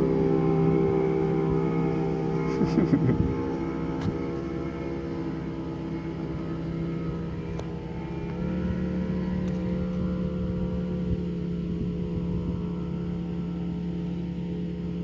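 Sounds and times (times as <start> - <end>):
outboard motor running at speed: 0.0 - 15.0.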